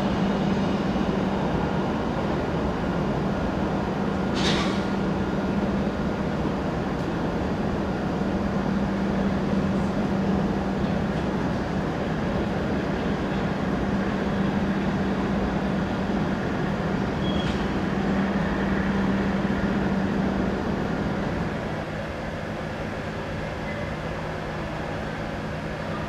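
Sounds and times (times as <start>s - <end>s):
high-speed train passing: 0.0s - 26.0s.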